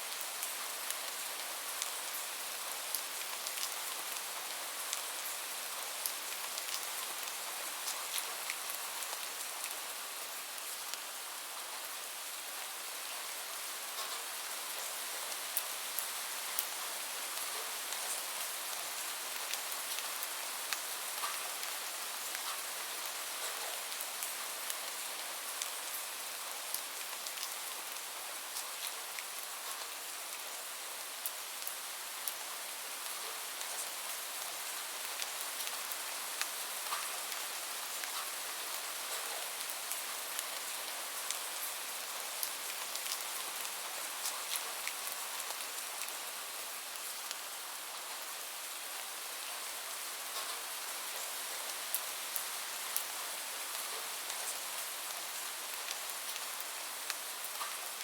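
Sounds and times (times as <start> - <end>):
light rain hissing: 0.0 - 58.0.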